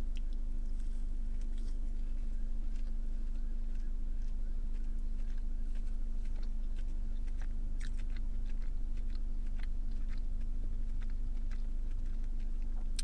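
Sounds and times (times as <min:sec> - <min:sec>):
chewing with wet mouth clicks: 0:00.0 - 0:13.0
steady low hum: 0:00.0 - 0:13.0.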